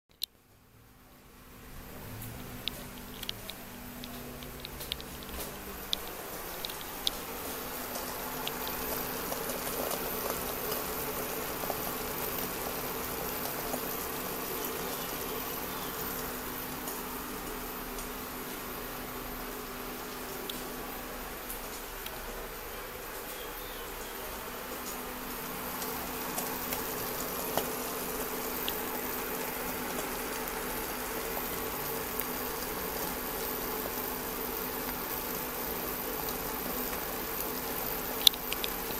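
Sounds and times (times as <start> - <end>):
cooktop hum: 0.1 - 38.9
omelette sizzling in frying pan: 1.8 - 38.9
small crackles: 2.0 - 38.9.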